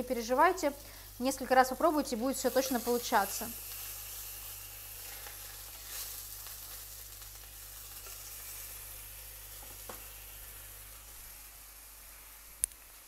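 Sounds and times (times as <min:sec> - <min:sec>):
meat sizzling in oil: 0:00.1 - 0:13.0.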